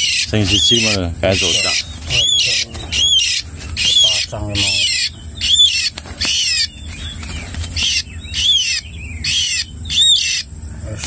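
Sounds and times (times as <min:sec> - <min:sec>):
bird giving harsh squawks: 0:00.0 - 0:10.6.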